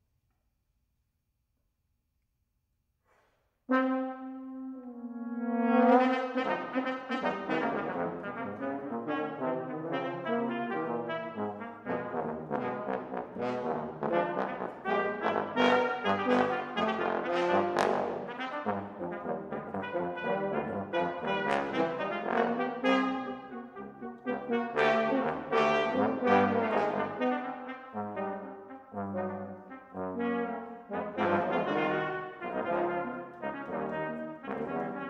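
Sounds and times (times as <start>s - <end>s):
brass trio playing quick notes: 3.7s - 35.0s.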